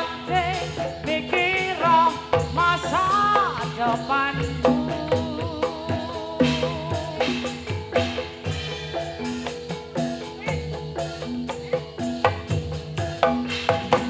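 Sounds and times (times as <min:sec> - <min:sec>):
drum strokes: 0:00.0 - 0:14.0
struck metallophone notes: 0:00.0 - 0:14.0.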